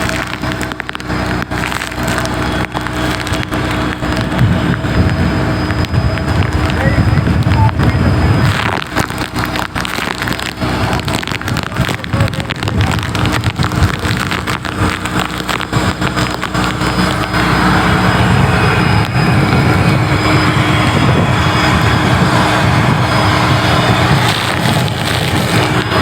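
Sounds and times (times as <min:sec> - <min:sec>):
rain: 0:00.0 - 0:06.9, 0:07.7 - 0:26.0
boat engine running: 0:00.0 - 0:26.0
sharp crackles and knocks: 0:00.0 - 0:26.0
wind buffeting the microphone: 0:00.0 - 0:26.0.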